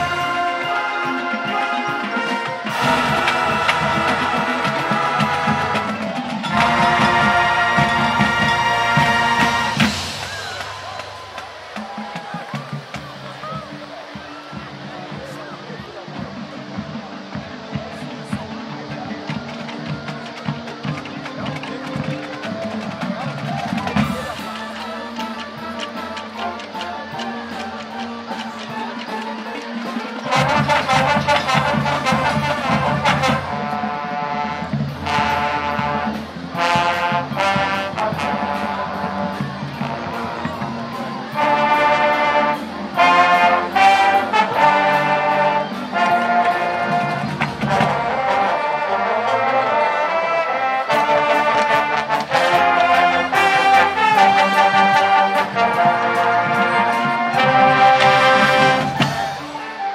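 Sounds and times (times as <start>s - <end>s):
marching band brass and saxophones: 0.0s - 59.9s
marching drumline hits: 0.0s - 59.9s.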